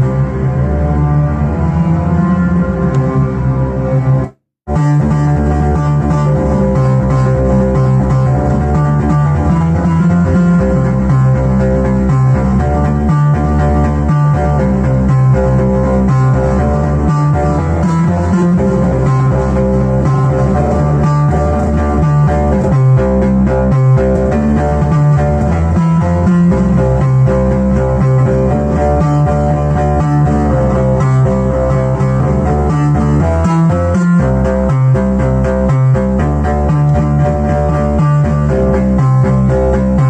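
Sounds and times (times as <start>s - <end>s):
short repeated synth notes: 0.0s - 40.0s
sustained synth bass line: 0.0s - 40.0s.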